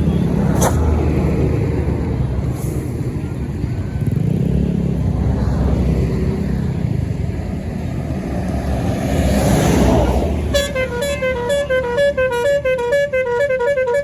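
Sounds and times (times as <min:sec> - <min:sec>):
heavy vehicles engine rumble: 0:00.0 - 0:14.0.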